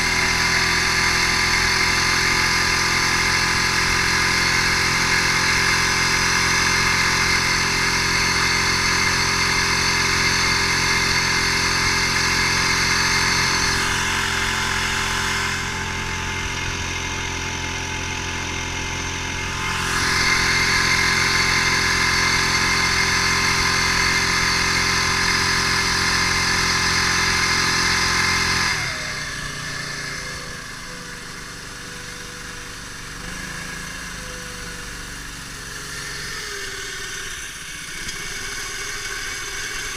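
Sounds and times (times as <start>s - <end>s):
outboard boat motor running: 0.0s - 39.9s.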